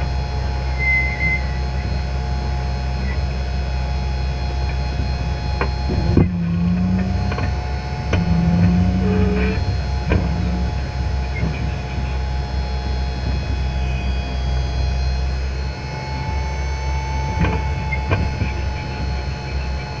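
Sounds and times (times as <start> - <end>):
high whine: 0.0 - 20.0
tractor engine rumble: 0.0 - 20.0.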